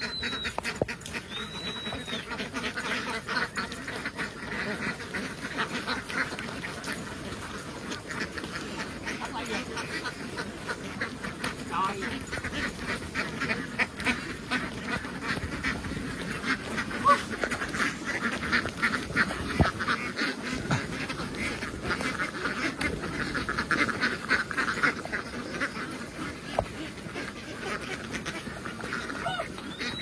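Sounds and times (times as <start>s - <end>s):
flock of ducks quacking: 0.0s - 30.0s.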